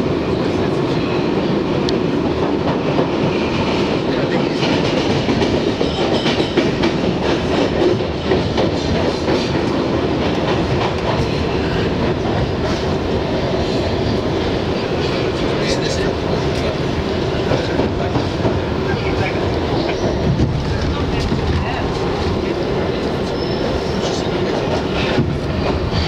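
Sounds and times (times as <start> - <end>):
subway car rumble: 0.0 - 26.0.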